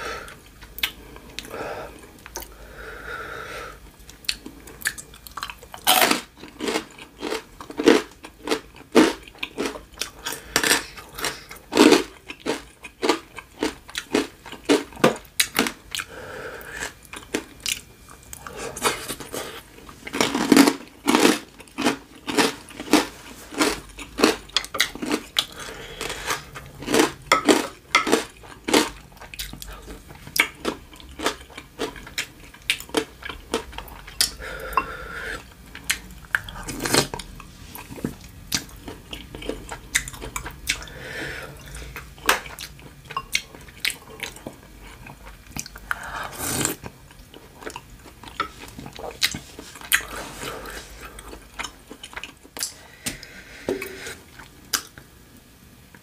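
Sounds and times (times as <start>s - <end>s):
chewing and wet mouth sounds: 0.3s - 2.6s, 4.0s - 55.1s.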